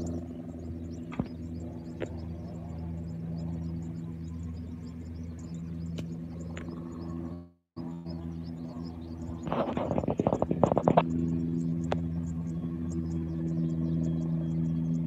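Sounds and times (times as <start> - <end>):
helicopter drone: 0.0 - 15.0.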